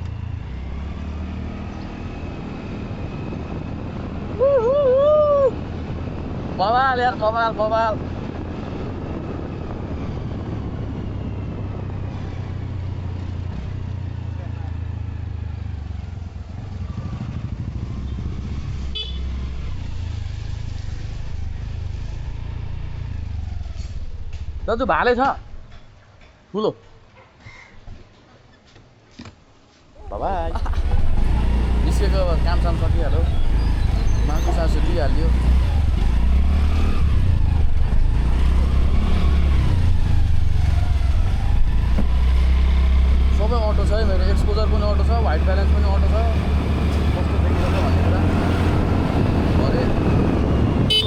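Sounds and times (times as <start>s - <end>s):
motorcycle engine droning: 0.0s - 26.1s, 30.0s - 51.0s
road and wind noise: 0.0s - 51.0s.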